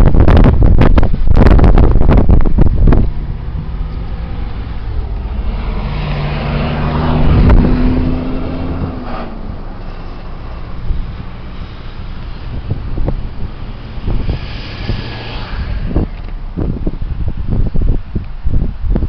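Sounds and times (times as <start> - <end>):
road and wind noise: 0.0 - 19.0
vehicle engine hum: 0.0 - 19.0.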